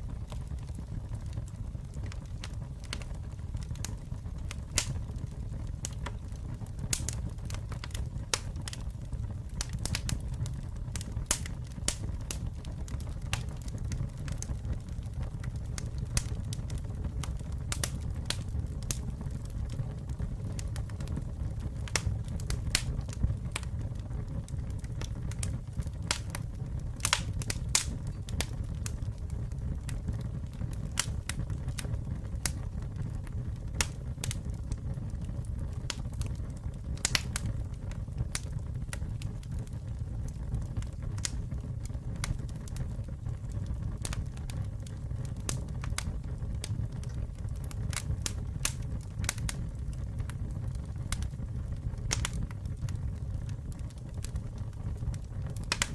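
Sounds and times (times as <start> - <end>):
low rumble of flames: 0.0 - 55.9
wood crackling and popping: 0.0 - 55.9.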